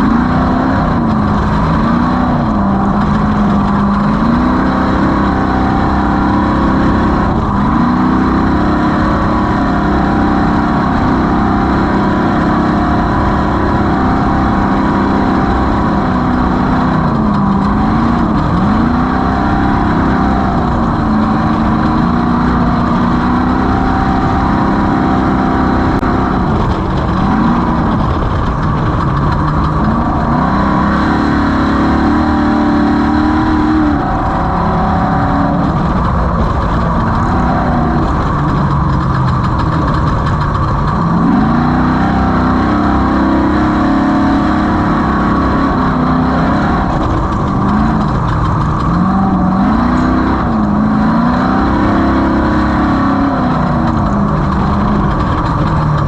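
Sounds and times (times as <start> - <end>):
race vehicle engine revving: 0.0 - 56.0.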